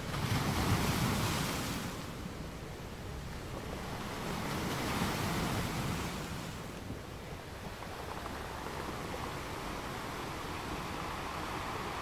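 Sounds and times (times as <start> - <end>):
waves washing in: 0.0 - 12.0.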